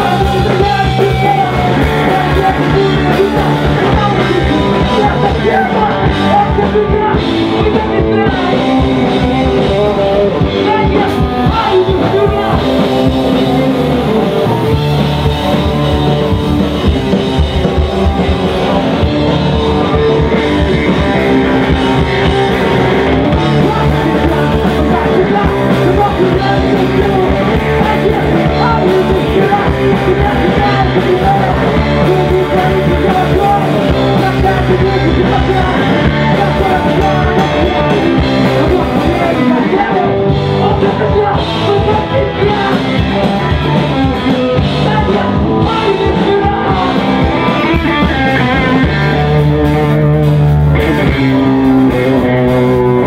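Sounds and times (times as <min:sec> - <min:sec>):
person singing into a microphone: 0:00.0 - 0:16.9, 0:18.9 - 0:53.0
bass guitar: 0:00.0 - 0:53.0
drum kit: 0:00.0 - 0:53.0
electric guitar: 0:00.0 - 0:53.0.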